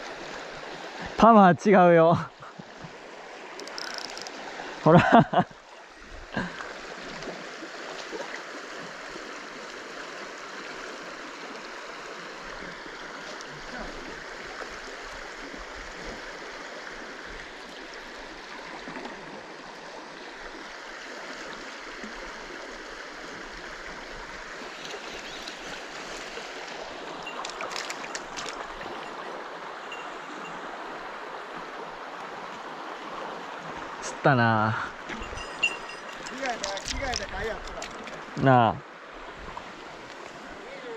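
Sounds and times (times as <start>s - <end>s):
stream over stones: 0.0s - 40.9s.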